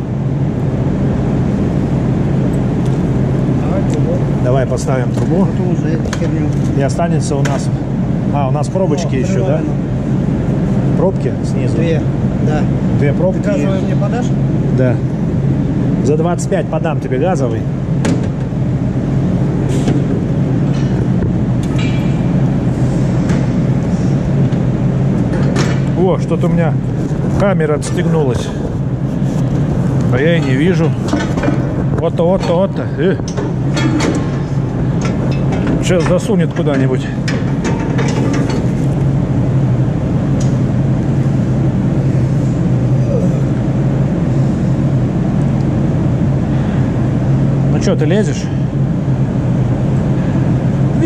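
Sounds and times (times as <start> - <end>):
loud low machine drone: 0.0 - 51.0.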